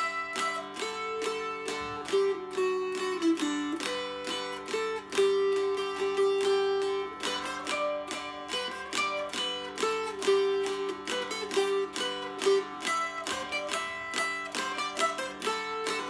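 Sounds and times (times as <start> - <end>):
mountain dulcimer strummed: 0.0 - 16.0.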